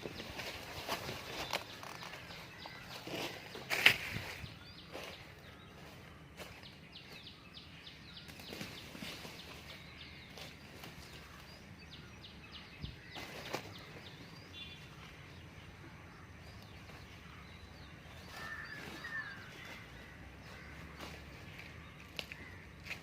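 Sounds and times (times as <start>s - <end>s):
faint outdoor background noise: 0.0s - 23.0s
small birds chirping: 0.0s - 23.0s.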